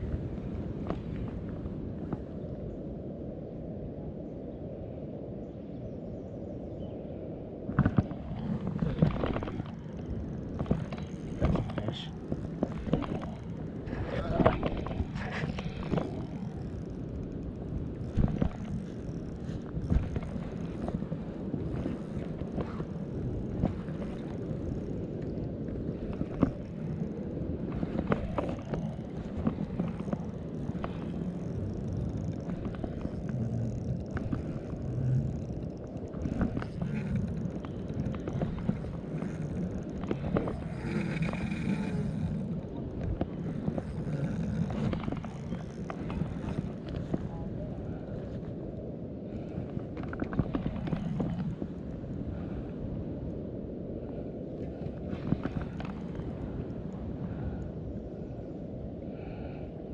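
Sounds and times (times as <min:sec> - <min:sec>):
river water: 0:00.0 - 0:04.2, 0:07.2 - 0:59.7.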